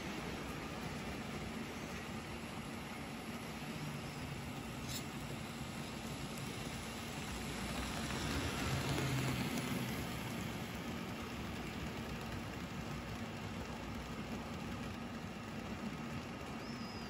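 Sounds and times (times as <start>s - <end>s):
model train motor hum: 0.0s - 17.0s
model train wheels on track: 0.0s - 17.0s.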